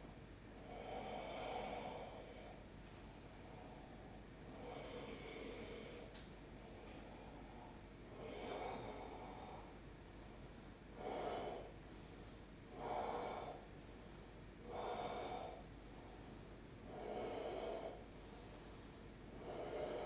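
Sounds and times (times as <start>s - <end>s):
person breathing through the throat: 0.6s - 2.6s, 3.4s - 9.8s, 10.9s - 20.0s.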